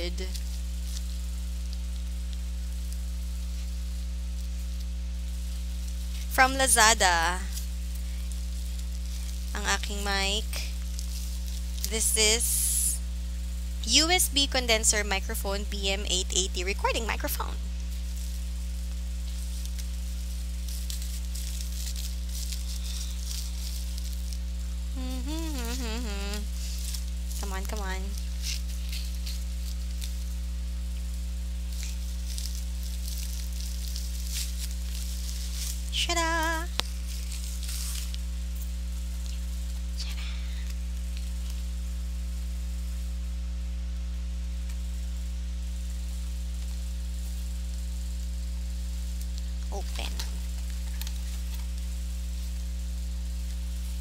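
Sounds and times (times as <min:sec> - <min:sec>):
electrical mains hum with buzz: 0:00.0 - 0:54.0.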